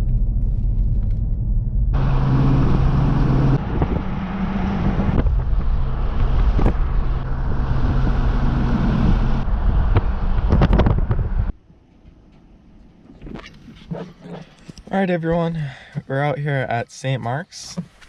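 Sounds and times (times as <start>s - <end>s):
vehicle engine rumble: 0.0s - 15.8s.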